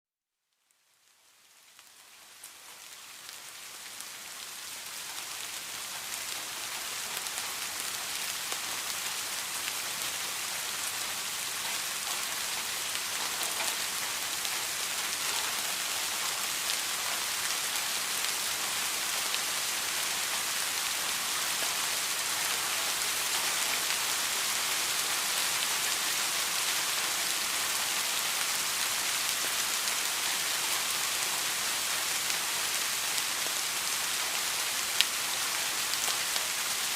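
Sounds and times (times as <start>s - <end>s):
steady rain patter: 0.5s - 36.9s.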